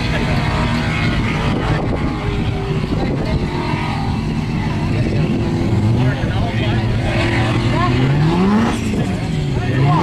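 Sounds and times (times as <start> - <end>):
car engine revving high: 0.0 - 10.0.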